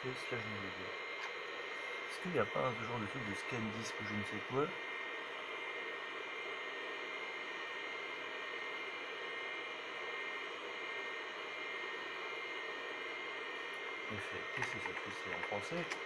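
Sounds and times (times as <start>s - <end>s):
computer fan hiss: 0.0s - 16.0s
faint high whine: 0.0s - 16.0s.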